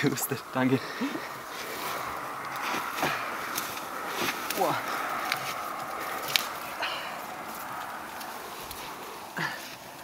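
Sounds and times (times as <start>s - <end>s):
insect drone: 0.0s - 10.0s
reeds rustling and crackling: 0.0s - 10.0s.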